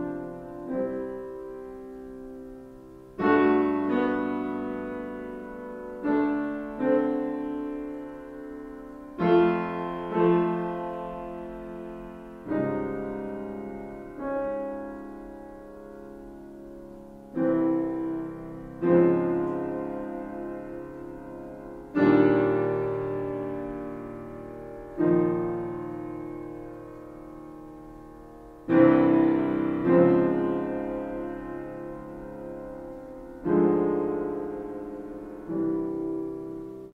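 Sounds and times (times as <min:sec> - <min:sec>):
slow piano chords: 0:00.0 - 0:36.9.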